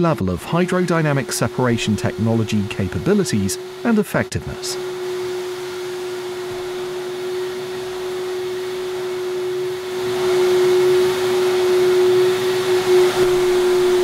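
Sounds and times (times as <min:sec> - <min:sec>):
suction hose hum and hiss: 0:00.0 - 0:14.0.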